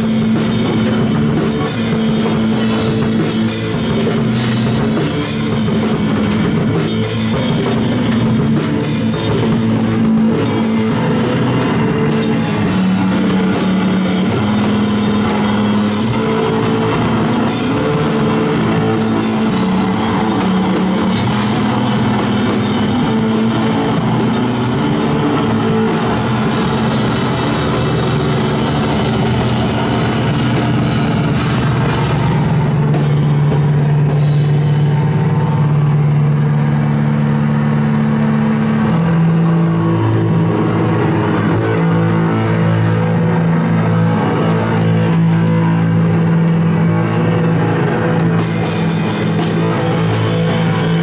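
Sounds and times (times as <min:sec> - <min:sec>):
cymbal crashes: 0:00.0 - 0:51.0
drum kit: 0:00.0 - 0:51.0
electric bass: 0:00.0 - 0:51.0.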